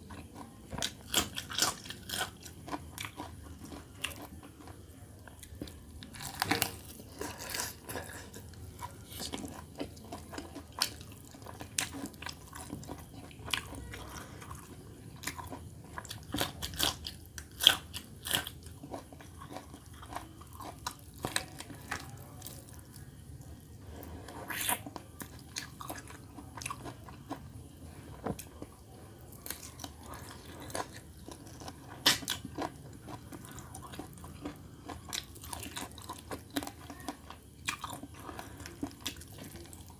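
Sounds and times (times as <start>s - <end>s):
chewing with wet smacks: 0.1s - 23.0s, 24.5s - 27.5s, 28.2s - 39.9s.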